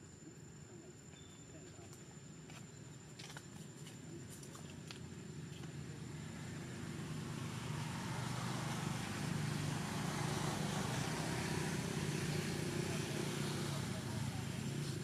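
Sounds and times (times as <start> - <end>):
vehicle engine hum: 1.8 - 15.0.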